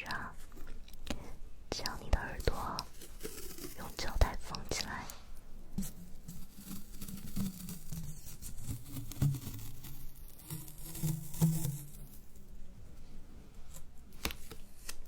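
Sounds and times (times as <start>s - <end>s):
soft rubbing and scratching: 0.0s - 15.0s.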